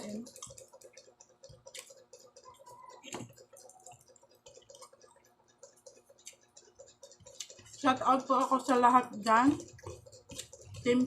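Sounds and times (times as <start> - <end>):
soft eating clicks and clinks: 0.0 - 11.0.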